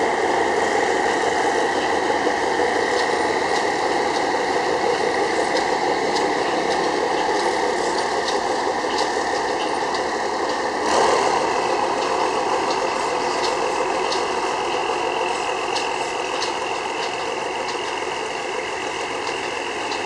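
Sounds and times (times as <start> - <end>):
train engine hum: 0.0 - 20.0.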